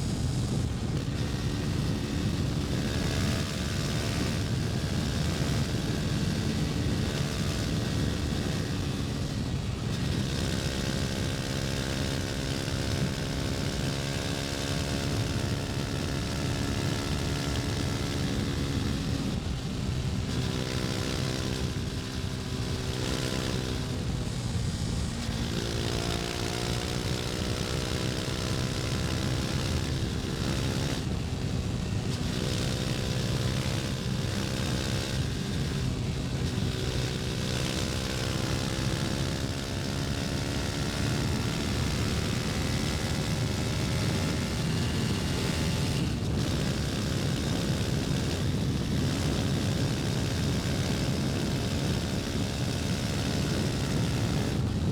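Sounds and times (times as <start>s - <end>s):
motorcycle engine running: 0.0s - 54.9s
steady rushing noise: 0.0s - 54.9s.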